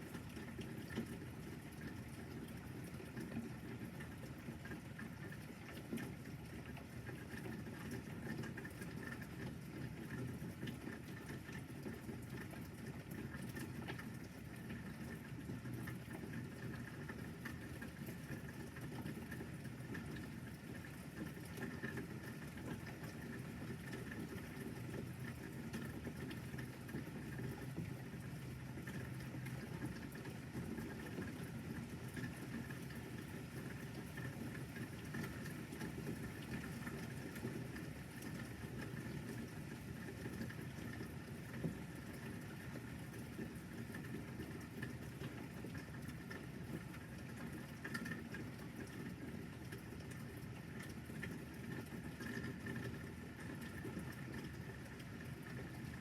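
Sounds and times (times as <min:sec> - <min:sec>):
light rain patter: 0:00.0 - 0:56.0.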